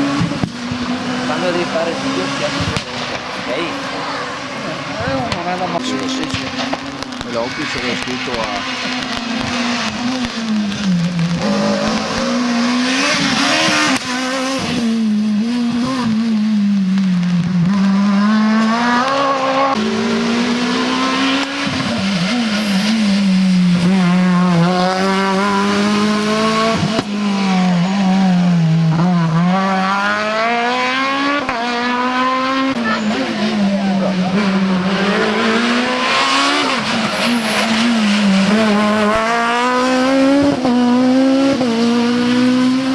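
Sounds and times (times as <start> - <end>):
rally car engine revving: 0.0 - 42.9.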